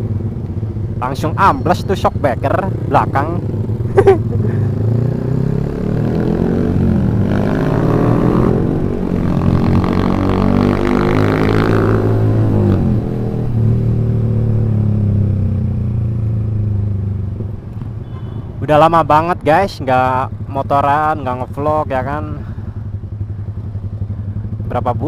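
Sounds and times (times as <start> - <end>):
motorcycle engine revving: 0.0 - 24.8.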